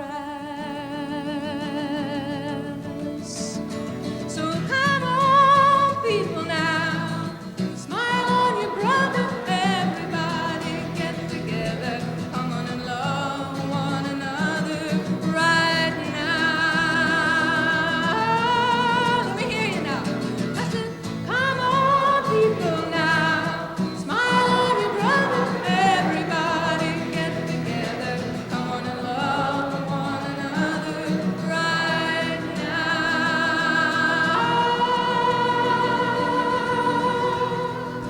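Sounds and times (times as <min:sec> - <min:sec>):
strummed acoustic guitar: 0:00.0 - 0:38.0
woman singing: 0:00.0 - 0:38.0.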